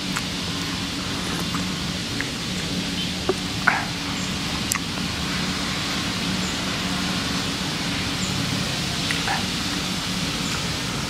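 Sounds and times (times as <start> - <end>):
low hum: 0.0 - 11.0
outdoor background hiss: 0.0 - 11.0.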